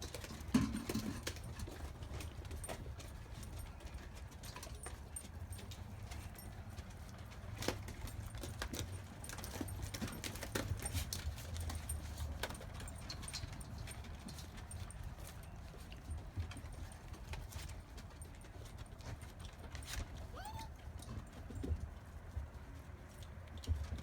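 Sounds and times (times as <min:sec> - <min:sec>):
food and teeth clinking on pans: 0:00.0 - 0:20.1.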